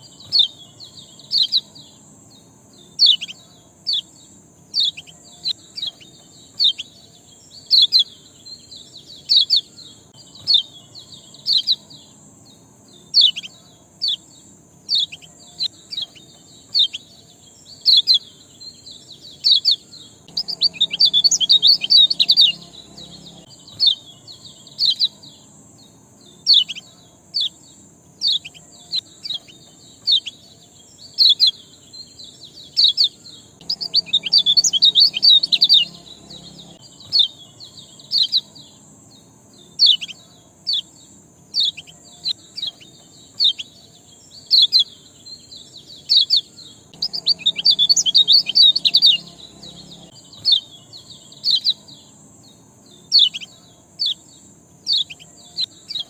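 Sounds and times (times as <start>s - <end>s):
small bird chirping: 0.0s - 56.0s.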